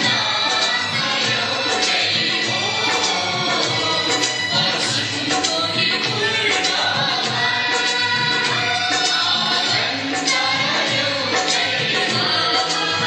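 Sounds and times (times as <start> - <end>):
person singing over rhythmic beat: 0.0 - 13.0.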